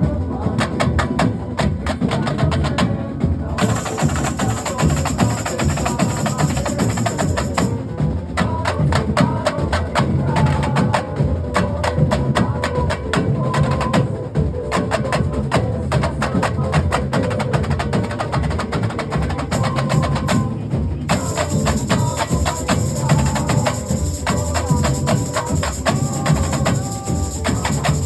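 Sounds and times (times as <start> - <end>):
drum line playing: 0.0 - 28.0.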